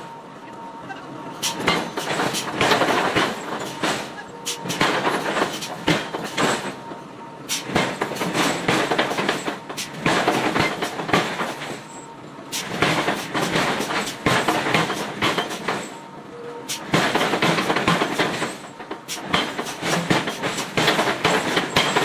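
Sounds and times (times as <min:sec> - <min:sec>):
continuous clattering noise: 0:01.3 - 0:22.0.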